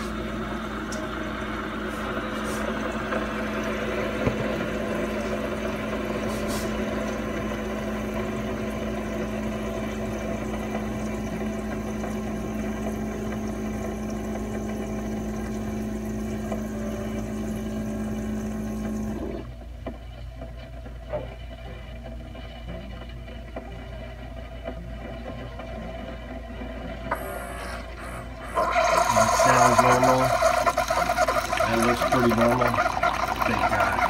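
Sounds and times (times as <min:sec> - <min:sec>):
coffee maker pump humming: 0:00.0 - 0:34.0.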